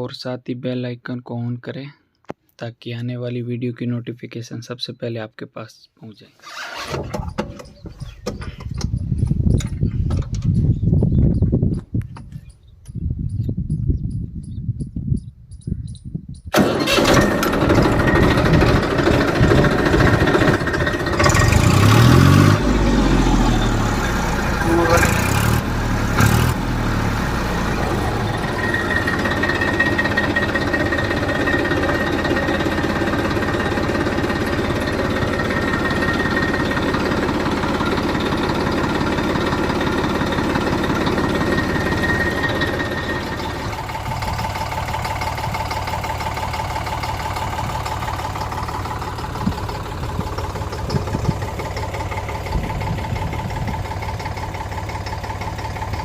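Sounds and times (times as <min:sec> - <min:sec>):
diesel tractor engine running: 0:06.5 - 0:14.8, 0:15.6 - 0:56.0.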